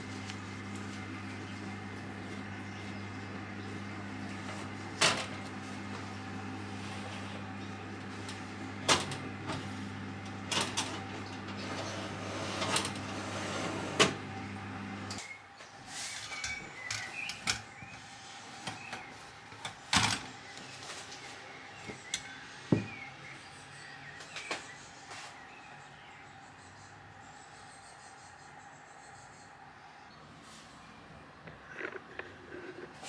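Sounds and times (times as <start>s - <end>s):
fan oven humming: 0.0s - 33.0s.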